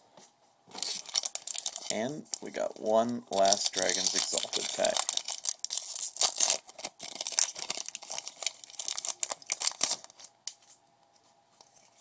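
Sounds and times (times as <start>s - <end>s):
foil wrapper crinkling and tearing: 0.7s - 10.4s.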